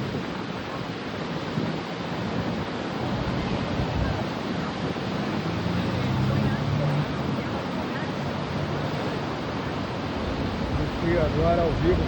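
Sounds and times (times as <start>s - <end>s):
rough surf breaking on beach: 0.0s - 12.0s
wind buffeting microphone: 0.0s - 12.0s.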